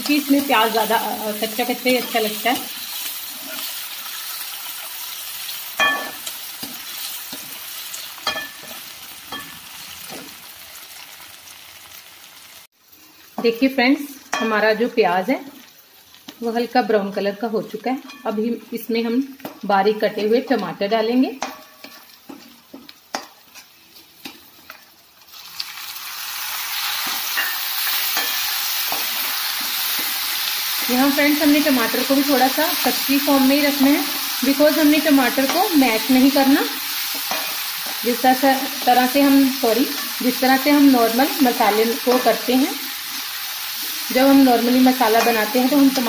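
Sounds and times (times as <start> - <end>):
onions sizzling in oil: 0.0 - 46.0.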